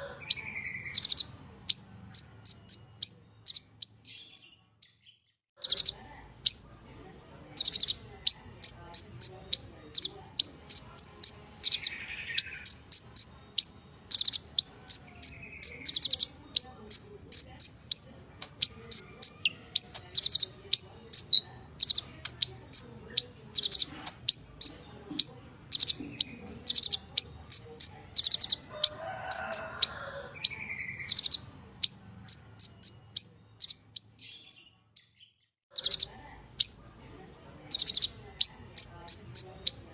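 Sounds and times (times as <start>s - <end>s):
sunbird chirping and trilling: 0.0s - 6.8s, 7.5s - 36.9s, 37.6s - 39.9s.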